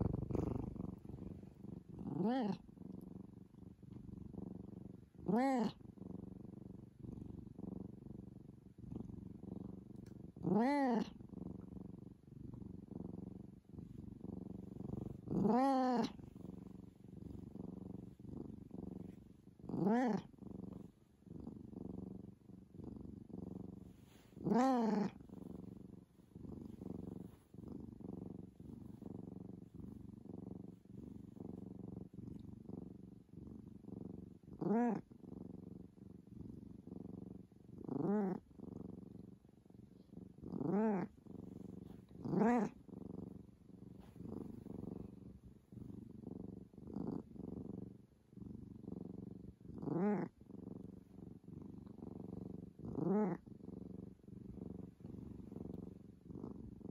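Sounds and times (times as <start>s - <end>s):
cat purring: 0.0s - 56.9s.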